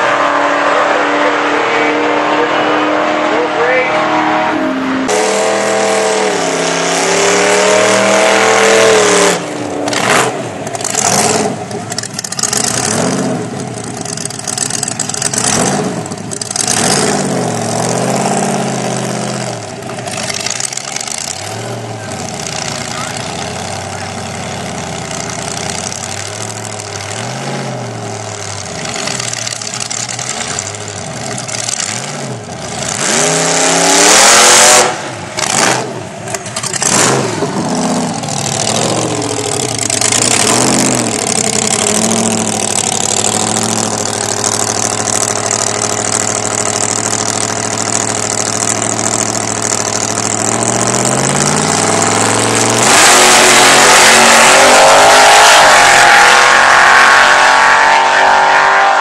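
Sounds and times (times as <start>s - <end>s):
supercharged engine revving: 0.0s - 59.0s.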